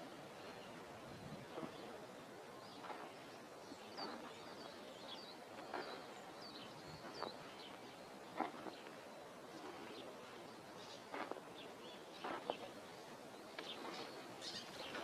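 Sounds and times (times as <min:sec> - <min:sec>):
steady outdoor hiss: 0:00.0 - 0:15.0
small birds chirping: 0:02.6 - 0:15.0.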